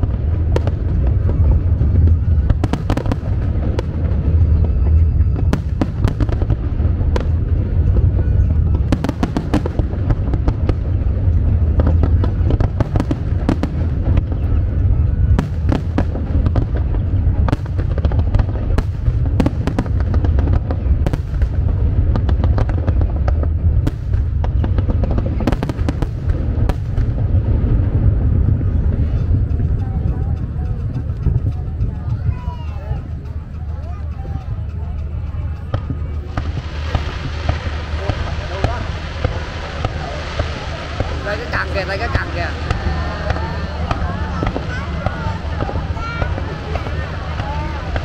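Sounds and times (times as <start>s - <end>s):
fireworks crackling and popping: 0.0s - 32.4s, 33.0s - 48.0s
deep rumble of firework bursts: 0.0s - 48.0s.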